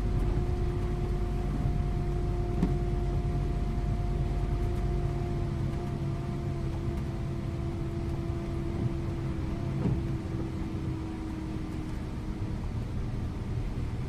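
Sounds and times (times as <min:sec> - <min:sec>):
bus engine and road rumble: 0:00.0 - 0:14.0
drivetrain whine: 0:00.0 - 0:14.0.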